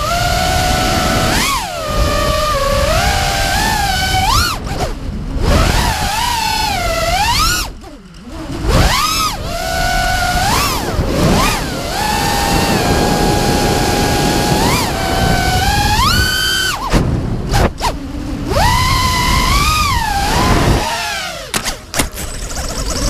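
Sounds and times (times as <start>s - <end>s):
quadcopter motors whining: 0.0s - 23.0s
wind rush: 0.0s - 23.0s.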